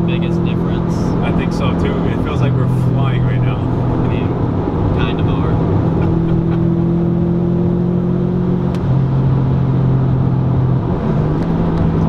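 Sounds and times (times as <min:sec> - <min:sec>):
car engine and exhaust droning: 0:00.0 - 0:12.0
road noise: 0:00.0 - 0:12.0.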